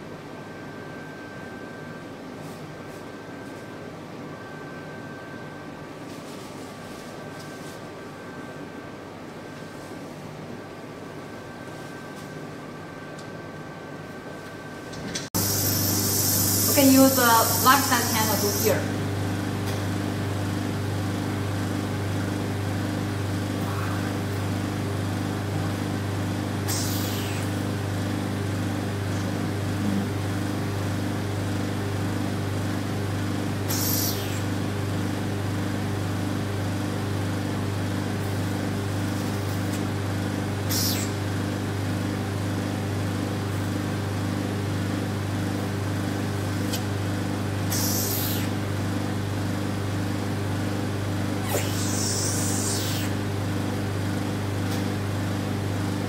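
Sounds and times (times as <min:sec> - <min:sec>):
machine low hum: 0:00.0 - 0:56.0.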